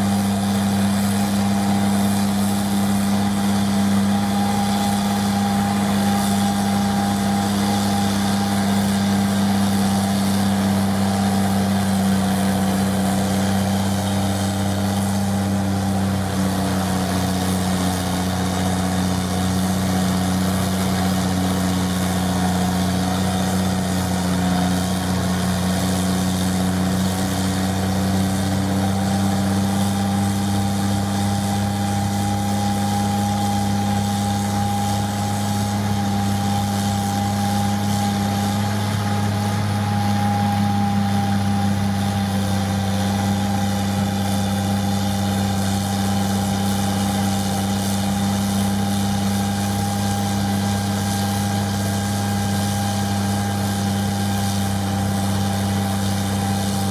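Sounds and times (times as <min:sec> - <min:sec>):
diesel engine running: 0:00.0 - 0:56.9
snowblower whine: 0:00.0 - 0:56.9.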